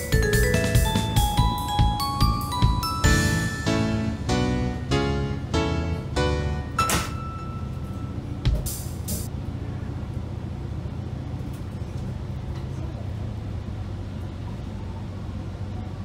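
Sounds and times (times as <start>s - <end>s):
railcar engine droning: 0.0s - 16.0s.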